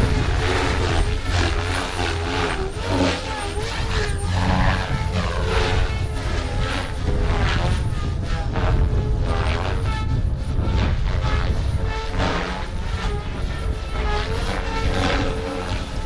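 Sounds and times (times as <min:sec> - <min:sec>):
rc helicopter rotor whoosh and whine: 0:00.0 - 0:16.0.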